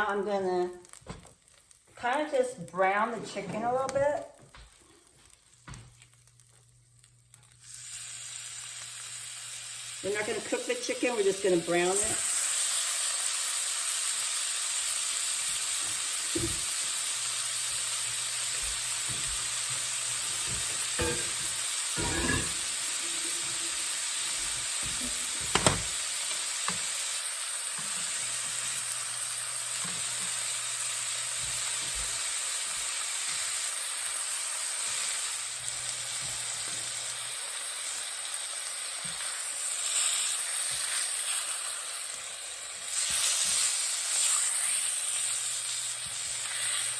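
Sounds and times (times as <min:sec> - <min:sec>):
chicken sizzling in hot oil: 0:04.8 - 0:46.9.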